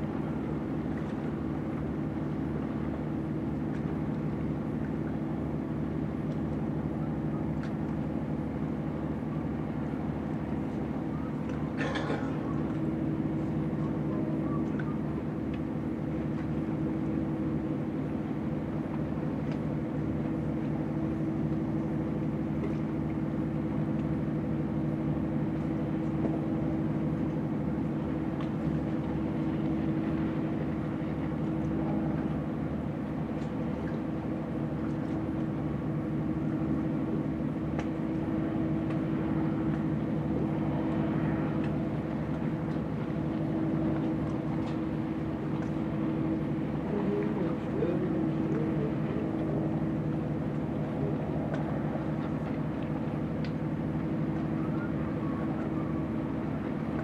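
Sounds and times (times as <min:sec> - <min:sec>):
ship diesel engine drone: 0:00.0 - 0:57.0.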